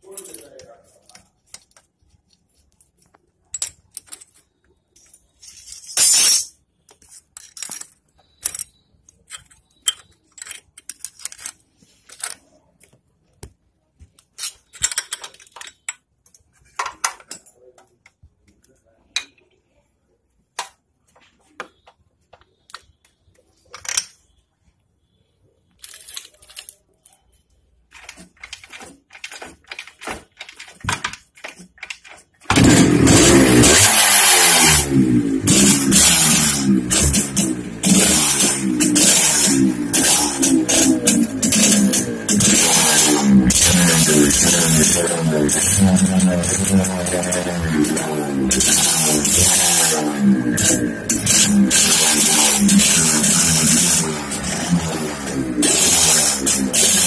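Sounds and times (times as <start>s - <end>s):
metallic clicks and clinks: 0.0s - 13.0s, 14.1s - 19.6s, 25.7s - 33.8s, 35.5s - 57.0s.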